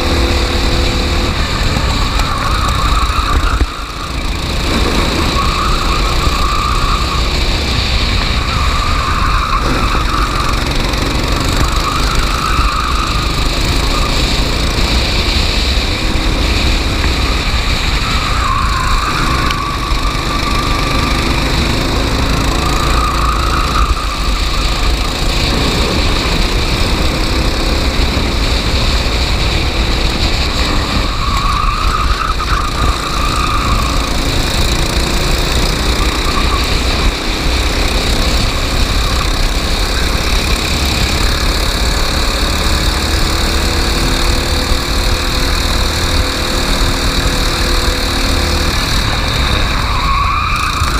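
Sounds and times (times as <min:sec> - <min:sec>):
racing kart engine: 0:00.0 - 0:50.9.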